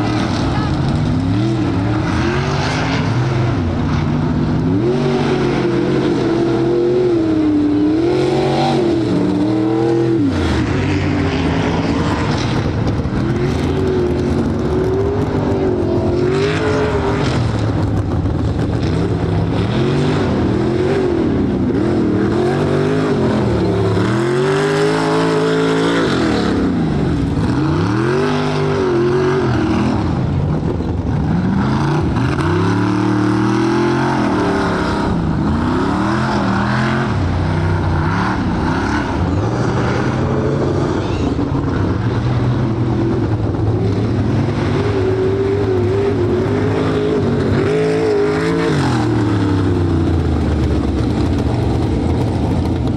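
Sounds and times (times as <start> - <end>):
truck engine revving: 0.0 - 52.9.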